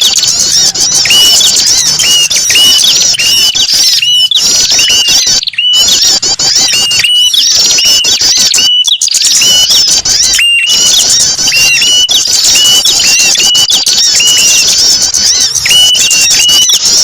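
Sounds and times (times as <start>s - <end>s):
small birds twittering: 0.0s - 17.0s.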